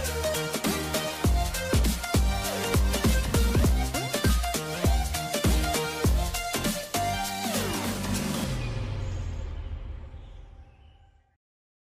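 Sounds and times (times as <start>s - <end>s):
electronic music: 0.0s - 10.5s.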